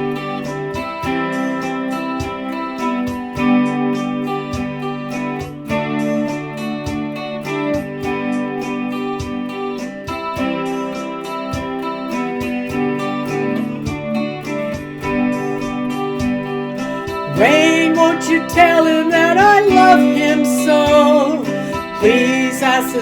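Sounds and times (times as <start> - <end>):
strummed guitar: 0.0 - 23.0.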